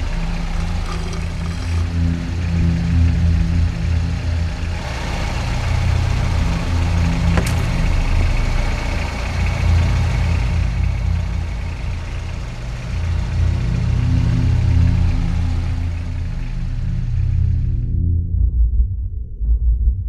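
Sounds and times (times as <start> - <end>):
tyres on rough track: 0.0 - 17.9
van engine rumble: 0.0 - 18.4.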